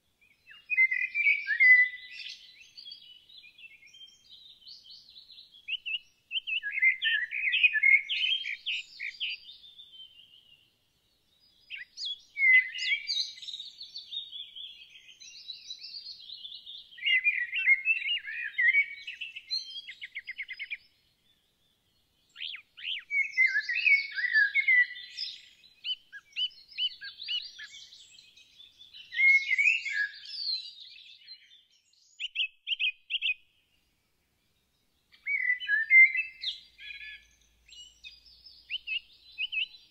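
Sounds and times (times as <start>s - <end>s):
songbird twittering and trilling: 0.1s - 39.9s.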